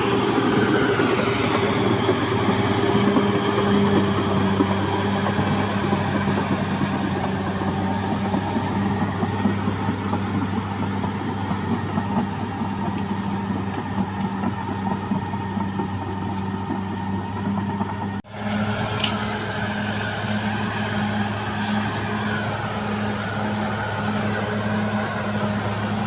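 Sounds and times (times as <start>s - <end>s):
bulldozer diesel engine droning: 0.0s - 26.0s.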